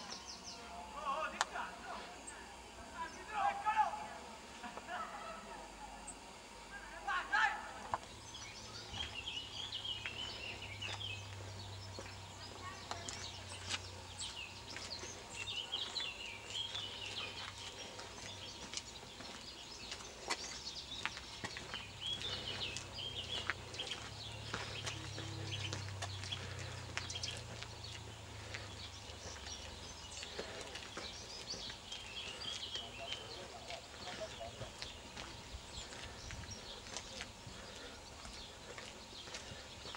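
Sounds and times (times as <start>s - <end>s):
small birds chirping: 0.0s - 39.9s
steady low hum: 0.0s - 39.9s
footsteps on gravel: 7.1s - 39.9s.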